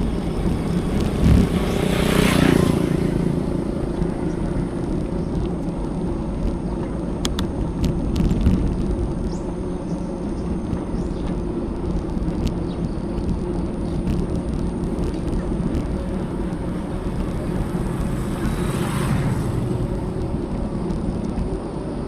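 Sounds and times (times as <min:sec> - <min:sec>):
low rumble from bicycle ride: 0:00.0 - 0:22.0
wind rushing over microphone: 0:00.0 - 0:22.0.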